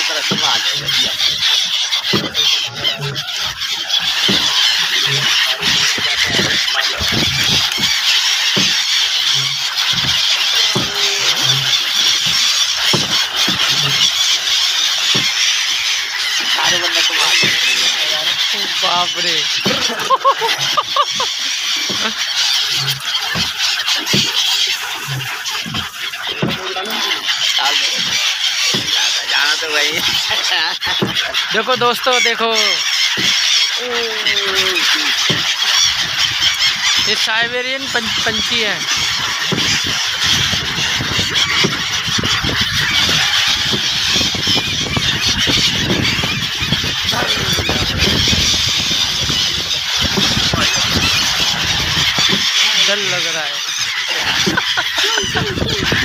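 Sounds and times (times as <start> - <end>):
flock of gulls calling: 0.0 - 56.0.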